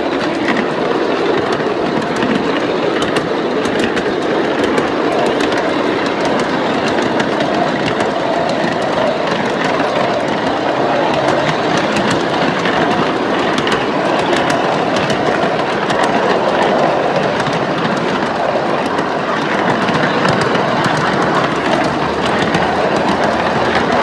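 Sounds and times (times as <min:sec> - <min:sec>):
small train running: 0:00.0 - 0:24.0
wheels clicking on rails: 0:00.0 - 0:24.0.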